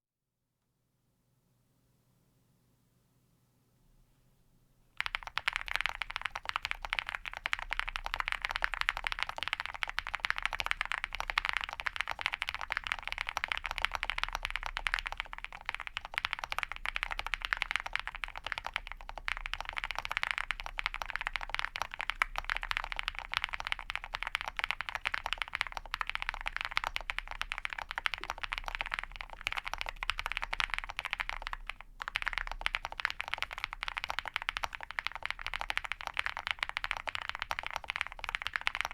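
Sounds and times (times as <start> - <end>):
fast typing on mechanical keyboard: 5.0 - 38.9.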